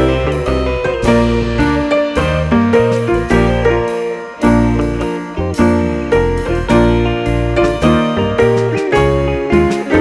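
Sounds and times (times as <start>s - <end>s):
bass line: 0.0s - 10.0s
piano chords: 0.0s - 10.0s.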